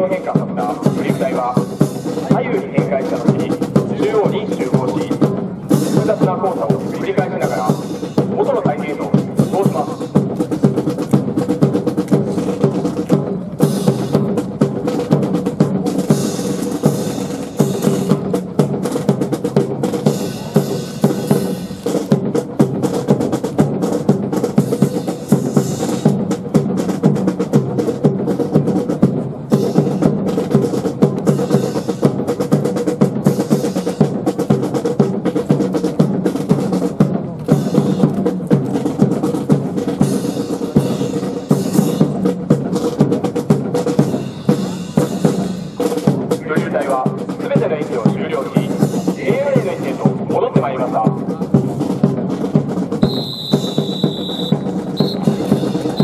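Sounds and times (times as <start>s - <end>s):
bass drum and snare beat: 0.0s - 56.0s
military band playing a march: 0.0s - 56.0s.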